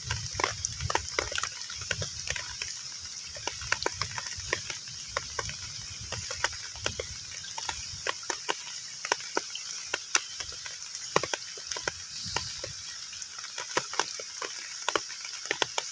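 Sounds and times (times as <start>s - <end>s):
rain hissing on water: 0.0s - 15.9s.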